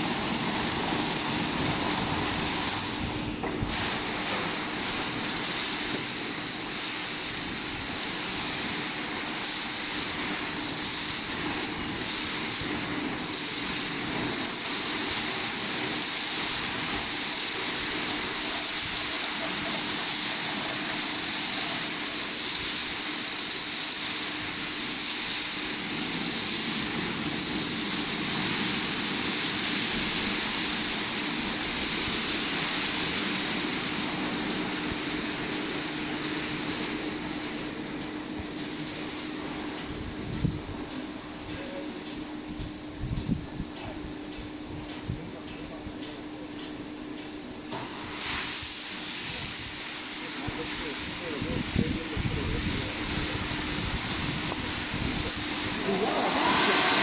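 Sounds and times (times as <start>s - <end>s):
blower fans rushing air: 0.0s - 57.0s.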